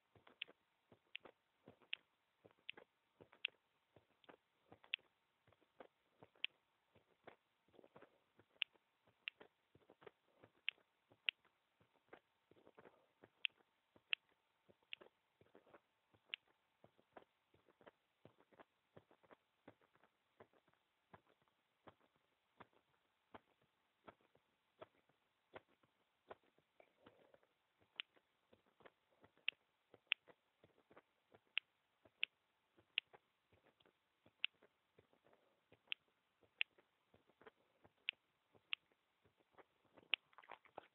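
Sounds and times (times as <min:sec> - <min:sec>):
heartbeat clicks: 0:00.0 - 0:40.9.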